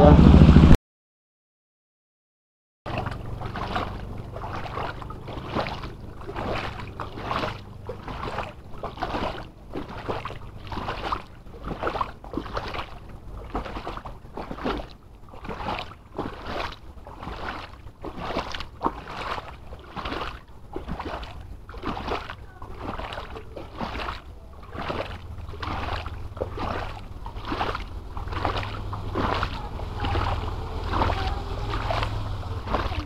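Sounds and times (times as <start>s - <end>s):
faint low hum: 2.9s - 33.0s
footsteps splashing through water: 2.9s - 33.0s.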